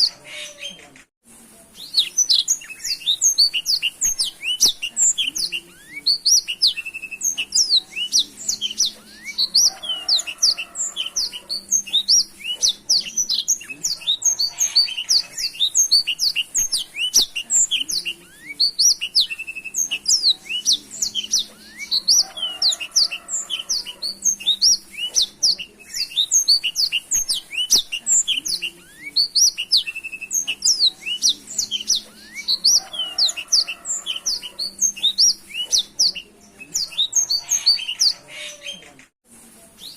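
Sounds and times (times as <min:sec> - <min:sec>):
canary singing: 0:00.0 - 0:01.0, 0:01.7 - 0:39.1.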